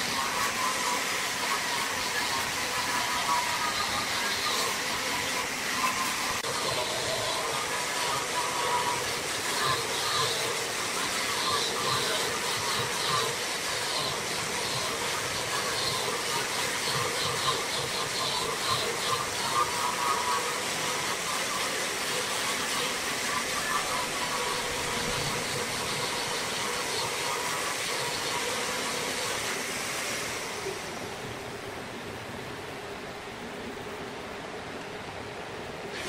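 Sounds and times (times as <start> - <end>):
wood lathe tool cutting wood: 0.0 - 30.8.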